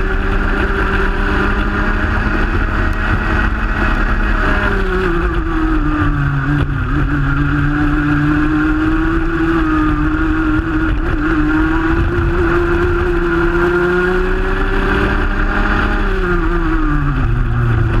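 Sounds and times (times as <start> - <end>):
two-stroke kart engine: 0.0 - 18.0.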